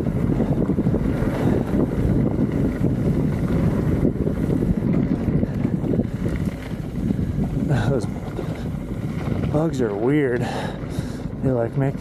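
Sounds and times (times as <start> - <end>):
mountain bike rattling on dirt trail: 0.0 - 12.0
wind buffeting microphone: 0.0 - 12.0.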